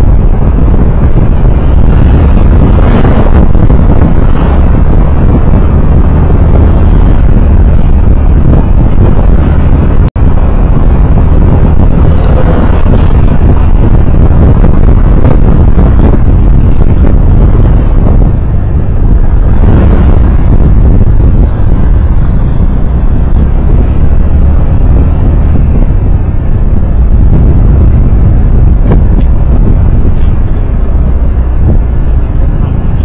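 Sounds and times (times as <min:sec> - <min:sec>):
vehicle road and engine rumble: 0:00.0 - 0:33.0.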